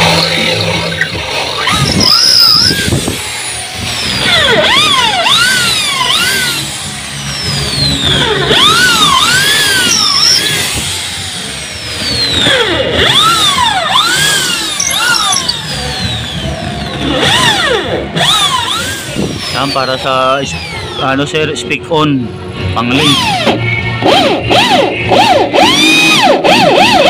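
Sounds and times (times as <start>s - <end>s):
cordless drill boring wood: 0.0s - 21.2s, 22.9s - 27.0s.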